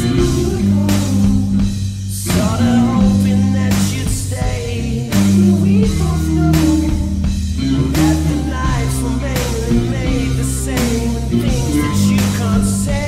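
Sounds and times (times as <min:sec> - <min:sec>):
drum kit: 0:00.0 - 0:13.0
electric guitar rock riff: 0:00.0 - 0:13.0
person singing: 0:00.0 - 0:13.0.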